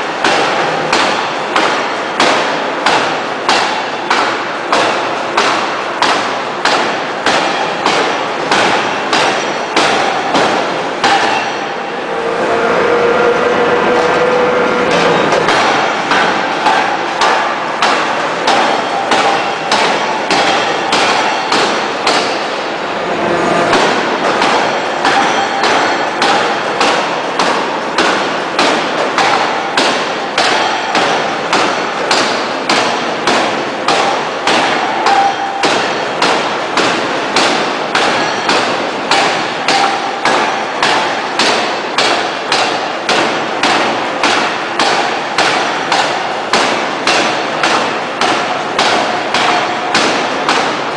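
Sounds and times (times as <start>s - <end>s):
forging hammer striking steel: 0.0s - 12.2s, 13.9s - 50.9s.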